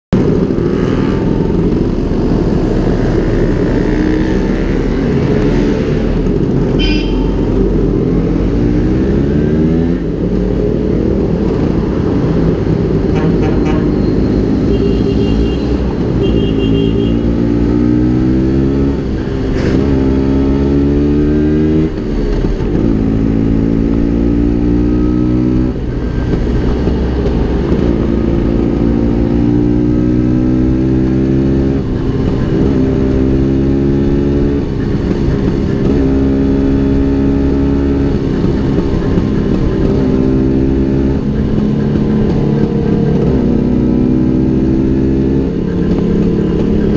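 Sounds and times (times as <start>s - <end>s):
scooter engine revving through gears: 0.2s - 46.9s.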